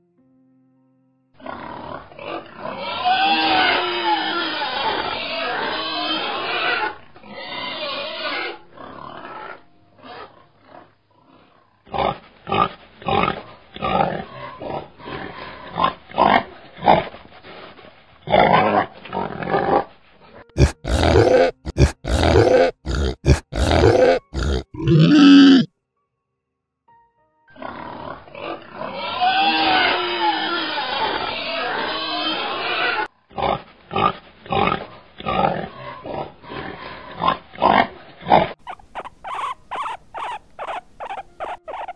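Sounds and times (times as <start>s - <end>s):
pigs squealing: 1.4s - 17.0s, 20.6s - 25.7s, 27.6s - 41.9s
pigs grunting: 1.4s - 17.1s, 18.2s - 25.7s, 27.6s - 41.9s.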